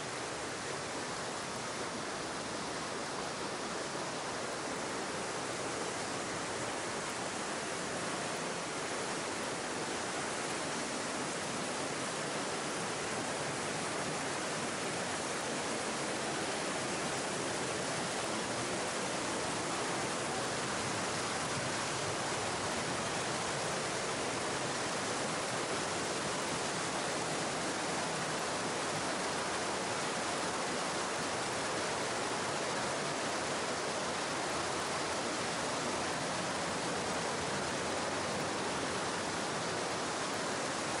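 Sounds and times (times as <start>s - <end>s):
mountain stream rushing: 0.0s - 41.0s.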